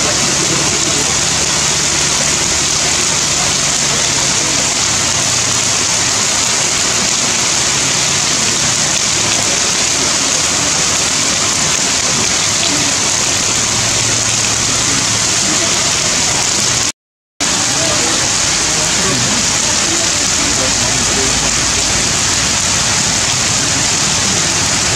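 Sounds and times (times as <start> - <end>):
heavy rain on leaves: 0.0 - 24.9.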